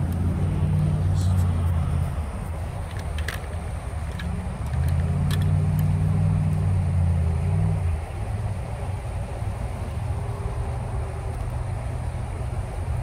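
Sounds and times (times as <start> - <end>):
road traffic rumbling: 0.0 - 13.0
vehicle passing: 0.0 - 13.0.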